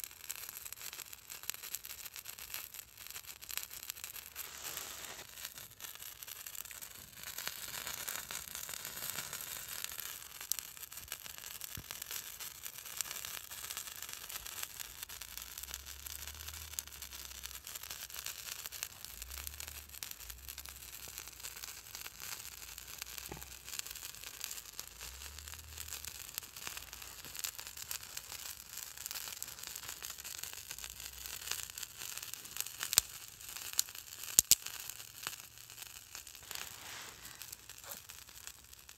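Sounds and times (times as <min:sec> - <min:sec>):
twig fire crackling: 0:00.0 - 0:38.9.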